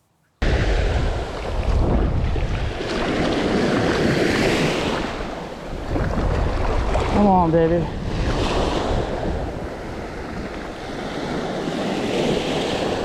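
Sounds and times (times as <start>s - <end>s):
surf washing onto beach: 0.4s - 13.0s
wind buffeting microphone: 0.4s - 13.0s.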